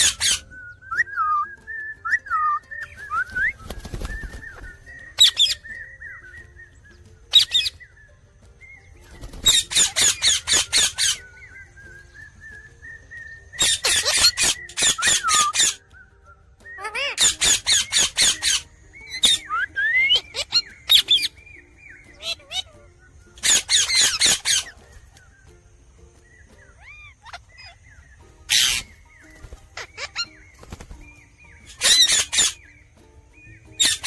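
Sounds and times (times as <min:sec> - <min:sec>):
parrot chirping: 0:00.0 - 0:34.0
thin wavering whistle: 0:00.0 - 0:34.0.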